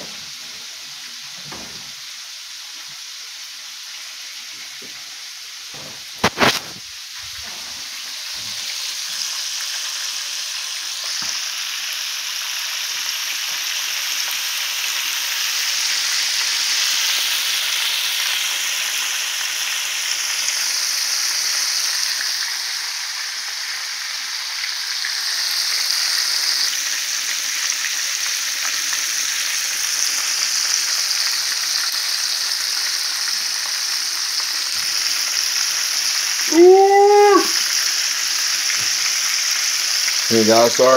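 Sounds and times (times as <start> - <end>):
chicken deep-frying in oil: 0.0 - 40.9.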